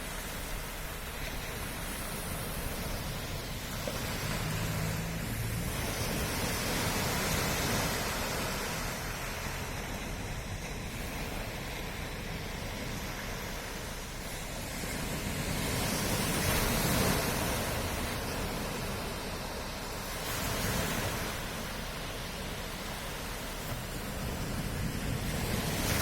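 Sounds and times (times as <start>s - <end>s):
sea waves washing onto shore: 0.0s - 26.0s.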